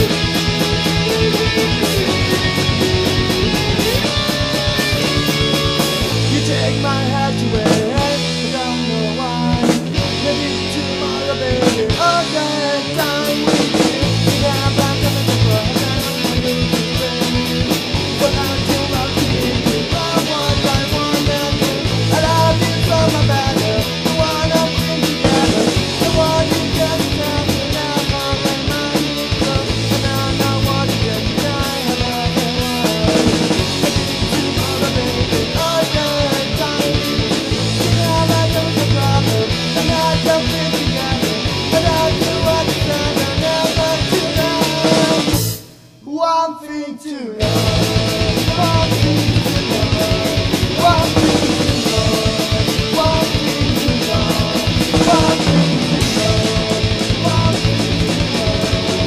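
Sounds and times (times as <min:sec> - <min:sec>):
punk rock song: 0:00.0 - 0:59.0.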